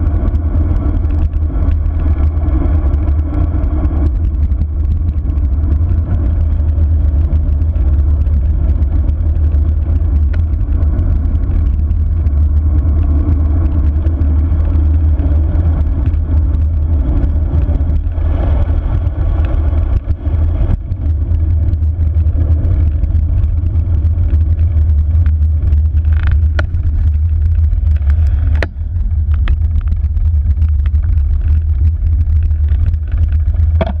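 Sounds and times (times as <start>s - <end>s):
wind rushing over microphone: 0.0s - 34.0s.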